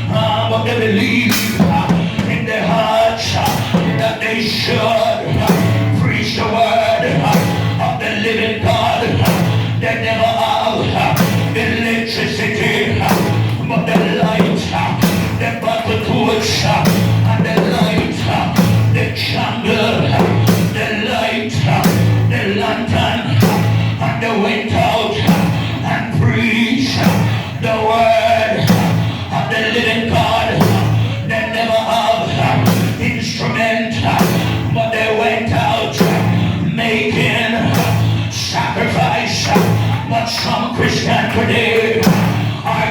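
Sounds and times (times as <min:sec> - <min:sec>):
church band music: 0:00.0 - 0:42.9
person singing: 0:00.0 - 0:42.9
drum kit beat: 0:01.2 - 0:08.0, 0:08.6 - 0:09.9, 0:10.8 - 0:27.7, 0:28.6 - 0:31.3, 0:32.0 - 0:33.4, 0:34.1 - 0:42.9.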